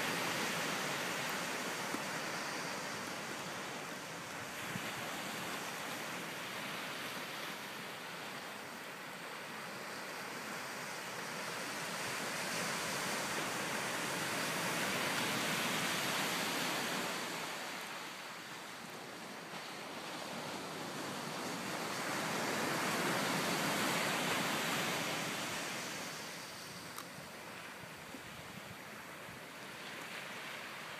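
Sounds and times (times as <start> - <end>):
ocean waves breaking on beach: 0.0 - 30.9.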